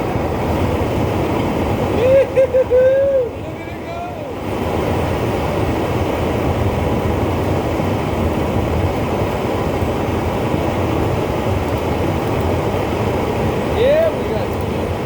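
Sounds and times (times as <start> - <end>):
forge burner flame rushing: 0.0 - 15.0.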